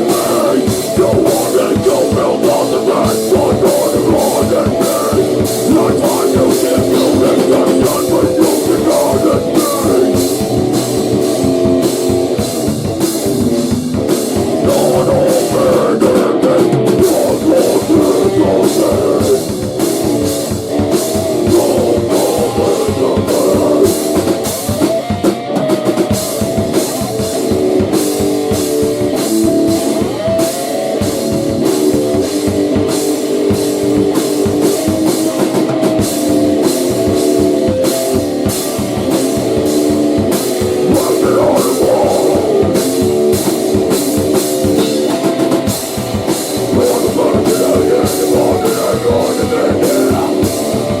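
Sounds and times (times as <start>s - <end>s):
distorted electric guitar: 0.0s - 51.0s
drum kit beat: 0.0s - 51.0s.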